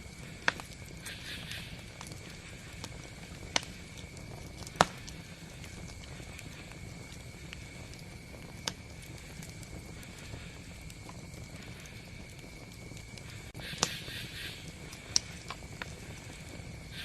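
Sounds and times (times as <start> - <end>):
campfire rumble: 0.0 - 17.0
fire crackles and pops: 0.0 - 17.0.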